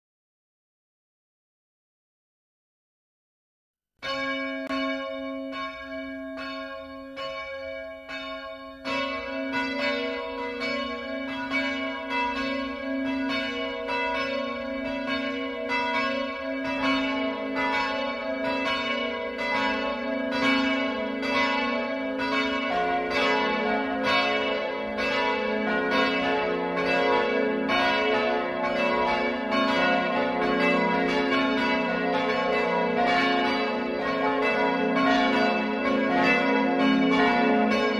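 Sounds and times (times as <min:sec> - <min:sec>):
church bells ringing: 0:04.0 - 0:37.9.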